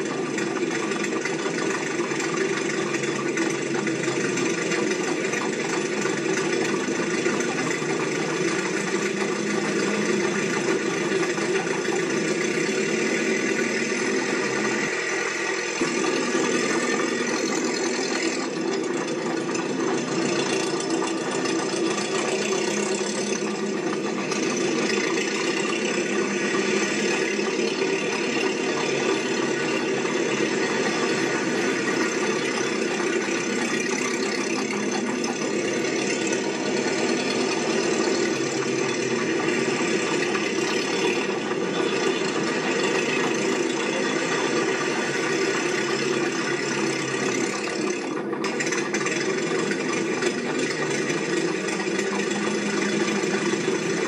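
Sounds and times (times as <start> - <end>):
mechanical running noise with rattle: 0.0 - 54.0.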